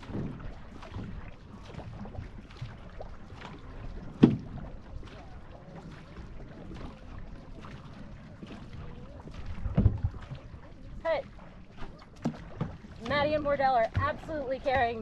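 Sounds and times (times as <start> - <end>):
water splashing along canoe hull: 0.0 - 15.0.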